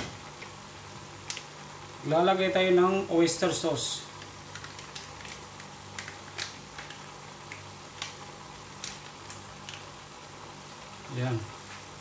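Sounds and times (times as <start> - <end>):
crackles: 0.0 - 2.0, 4.0 - 12.0
vegetables sizzling in a pan: 0.0 - 12.0.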